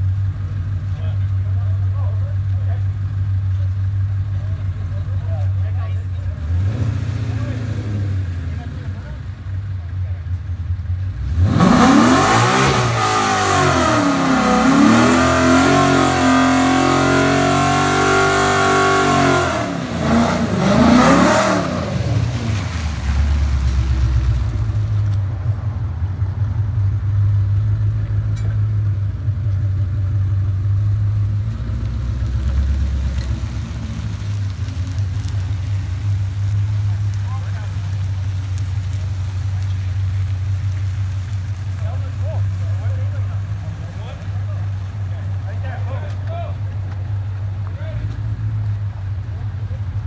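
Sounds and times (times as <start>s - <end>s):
car engines accelerating: 0.0s - 50.0s
low engine rumble: 0.0s - 50.0s.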